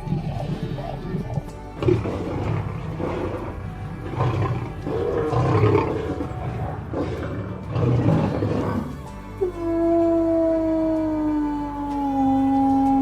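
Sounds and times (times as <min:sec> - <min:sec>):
tiger roaring and growling: 0:00.0 - 0:13.0.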